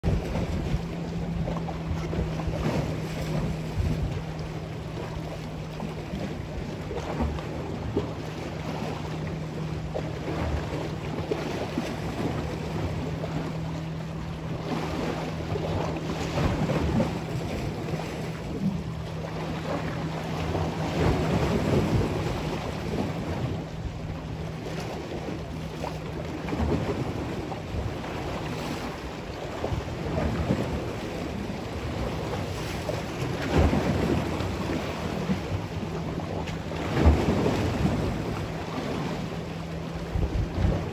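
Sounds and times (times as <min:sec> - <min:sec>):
choppy lake water: 0:00.0 - 0:40.9
wind buffeting microphone: 0:00.0 - 0:40.9.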